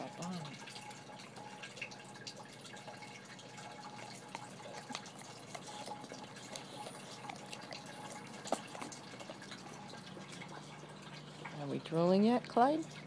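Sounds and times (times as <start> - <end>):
dog licking and lapping: 0.0 - 13.0.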